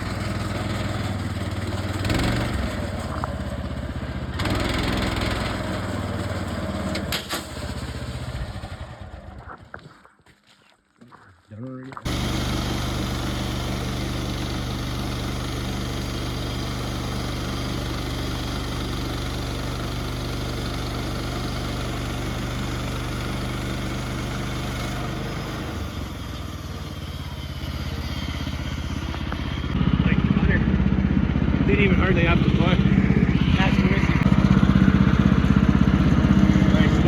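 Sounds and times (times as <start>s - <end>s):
sawmill engine running: 0.0s - 9.8s, 12.0s - 37.0s.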